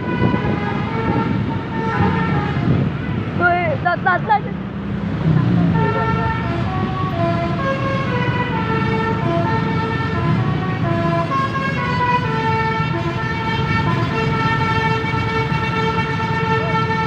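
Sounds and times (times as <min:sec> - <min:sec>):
bus horn playing tune: 0:00.0 - 0:03.3, 0:05.6 - 0:17.0.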